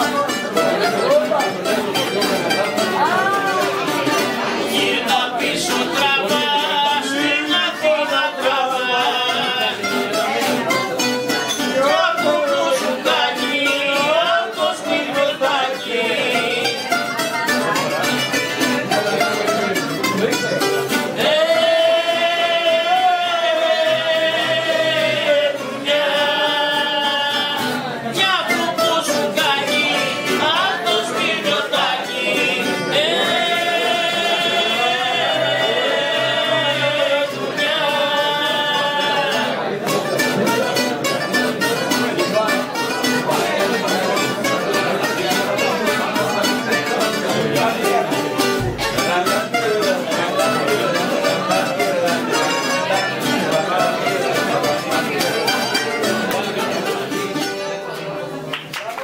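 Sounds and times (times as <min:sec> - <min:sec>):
bouzouki melody: 0:00.0 - 0:58.9
acoustic guitar chords: 0:00.0 - 0:59.0.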